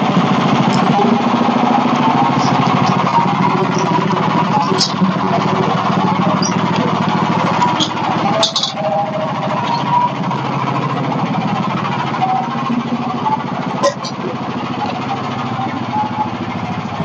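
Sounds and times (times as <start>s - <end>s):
sawmill gasoline engine running: 0.0s - 17.0s.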